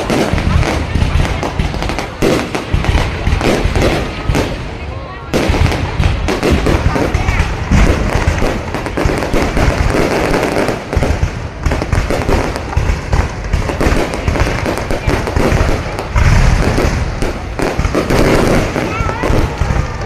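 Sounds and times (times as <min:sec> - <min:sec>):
fireworks bangs and crackle: 0:00.0 - 0:20.0.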